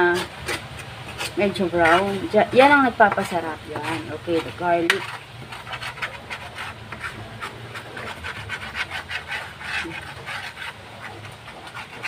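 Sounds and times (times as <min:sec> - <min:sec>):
metal spatula scraping a wok: 0:00.0 - 0:12.0.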